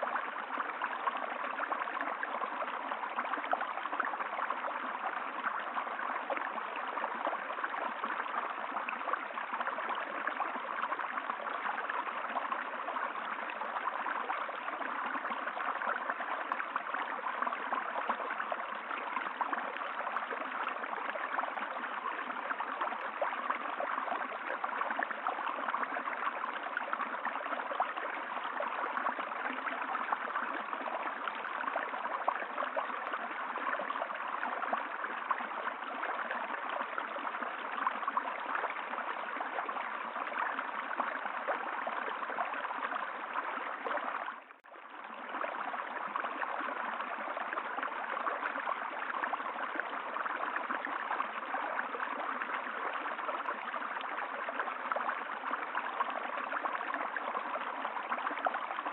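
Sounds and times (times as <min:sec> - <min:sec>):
stream flowing: 0:00.0 - 0:58.9.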